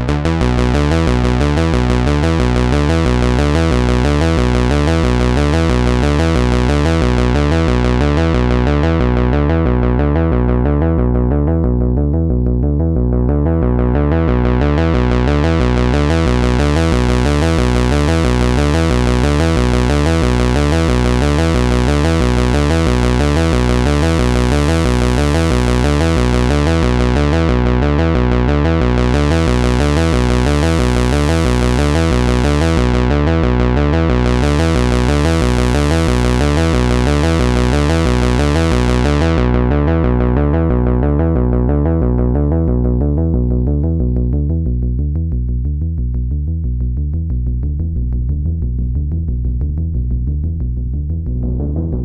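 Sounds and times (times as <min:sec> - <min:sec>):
synthesizer bass line: 0:00.0 - 0:52.0.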